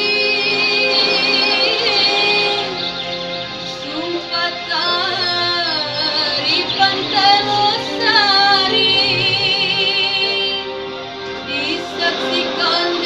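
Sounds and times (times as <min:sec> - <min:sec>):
sliding wavering melody with accompaniment: 0:00.0 - 0:13.0.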